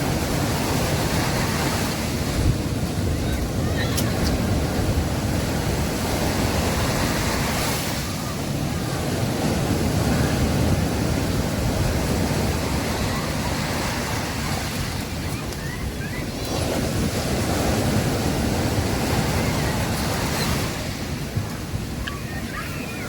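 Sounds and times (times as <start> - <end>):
surf breaking on a beach: 0.0 - 23.0
wind rumbling on microphone: 0.0 - 23.0.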